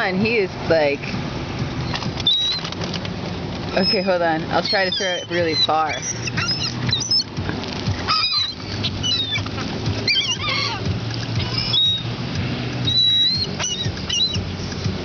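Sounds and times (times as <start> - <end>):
seagulls calling: 1.8 - 15.0.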